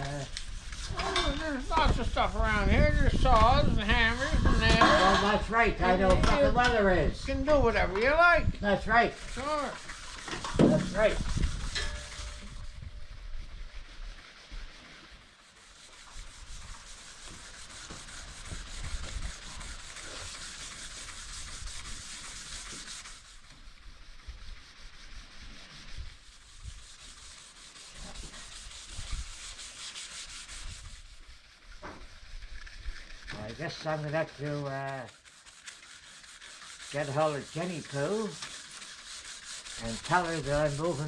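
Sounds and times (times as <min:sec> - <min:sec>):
sandpaper rubbing a surface: 0:00.0 - 0:41.0.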